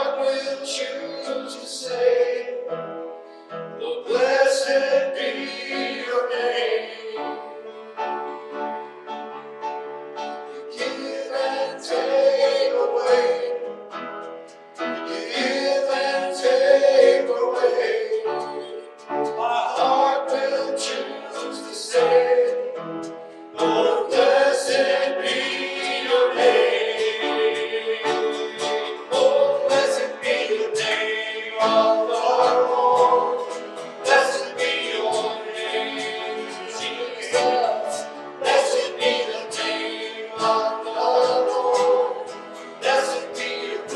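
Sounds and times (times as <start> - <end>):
voices singing: 0.0 - 9.3, 10.4 - 14.2, 14.8 - 43.9
instrumental accompaniment: 0.0 - 43.9.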